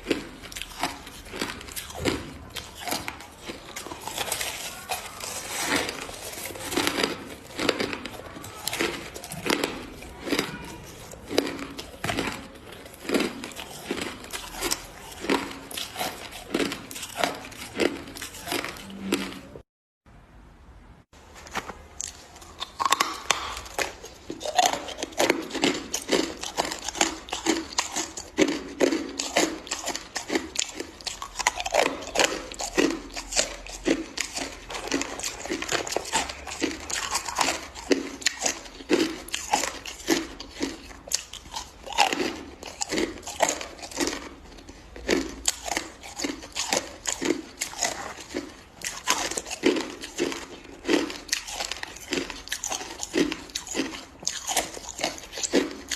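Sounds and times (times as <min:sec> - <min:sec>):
person crunching ice: 0:00.0 - 0:19.6, 0:21.5 - 0:55.9.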